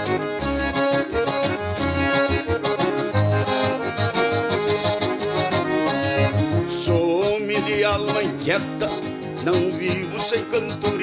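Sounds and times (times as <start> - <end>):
accordion playing: 0.0 - 11.0
rhythmic bass notes: 0.0 - 11.0.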